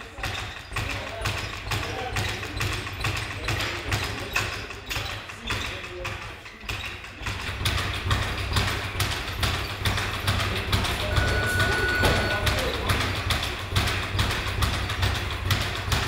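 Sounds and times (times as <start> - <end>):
boxing taps and thuds: 0.0 - 16.0.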